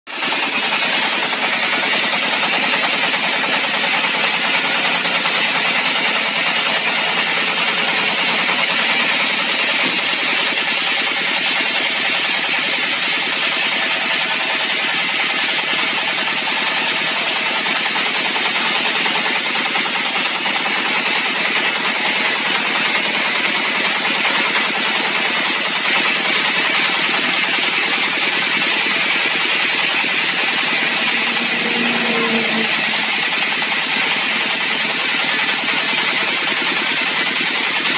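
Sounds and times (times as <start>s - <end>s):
band sawmill cutting log: 0.1s - 37.9s.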